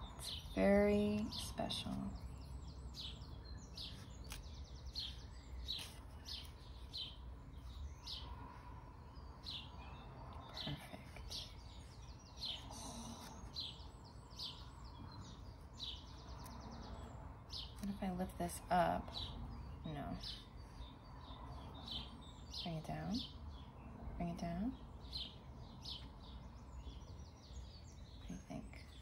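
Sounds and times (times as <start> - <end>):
small bird chirping: 0.0 - 29.0.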